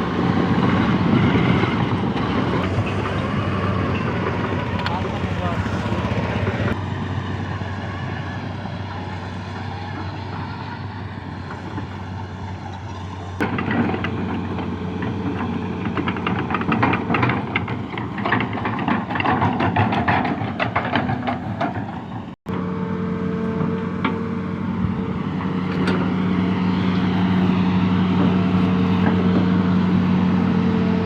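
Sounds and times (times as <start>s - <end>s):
excavator tracks clanking: 0.0s - 6.8s, 8.6s - 22.4s, 23.4s - 30.0s
excavator diesel engine running: 0.0s - 31.0s.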